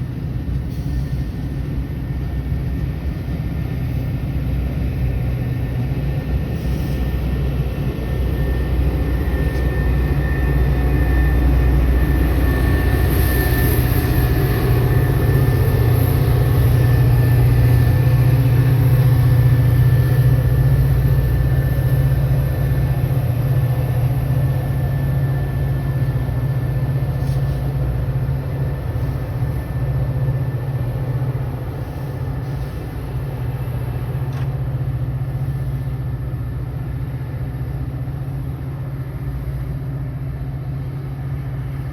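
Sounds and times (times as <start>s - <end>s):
diesel train rumbling: 0.0s - 41.9s
faint high whine: 6.5s - 41.8s.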